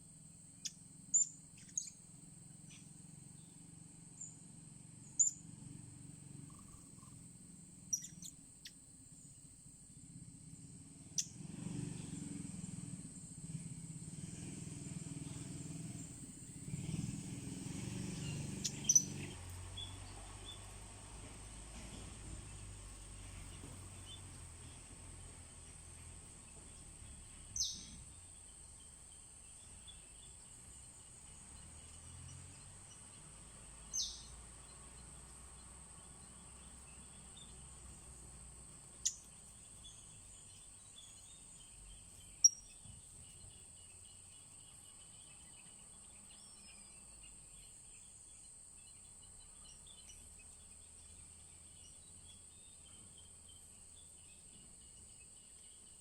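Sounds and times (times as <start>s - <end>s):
bird chirps: 0.6s - 4.4s, 5.0s - 5.7s, 6.4s - 9.4s, 15.2s - 38.1s, 38.8s - 56.0s.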